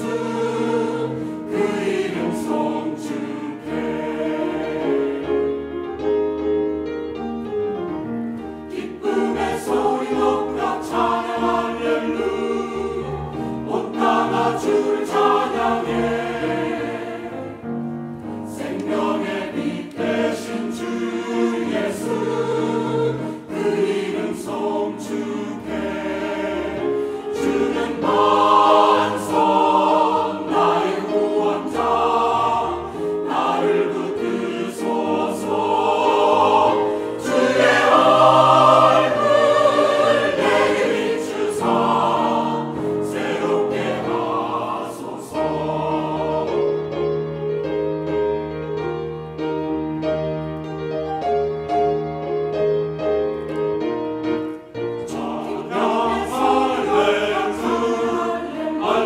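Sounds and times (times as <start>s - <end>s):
church choir singing a hymn: 0.0s - 6.8s, 7.6s - 49.9s, 53.0s - 59.0s
keyboard accompaniment: 0.0s - 59.0s.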